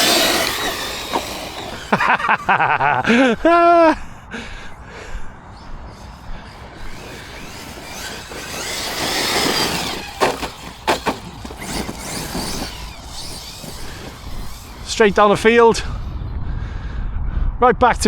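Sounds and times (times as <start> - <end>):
rc truck motor whine: 0.0 - 3.7, 4.8 - 16.4.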